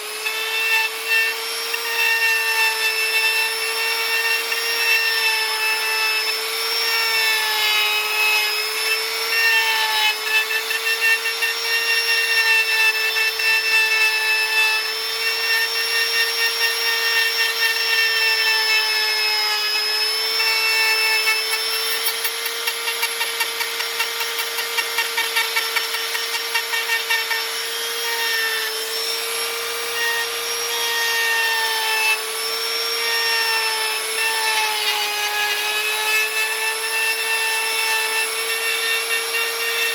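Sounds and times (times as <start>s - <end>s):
electric carving tool whining: 0.0s - 39.9s
rapid chatter of carving tool: 0.0s - 39.9s.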